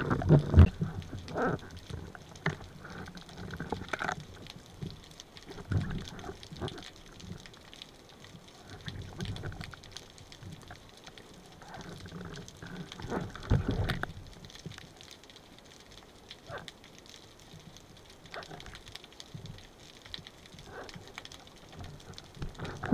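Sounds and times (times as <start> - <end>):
low rushes of water: 0.0 - 22.9
underwater crackle of clicks: 0.0 - 22.9.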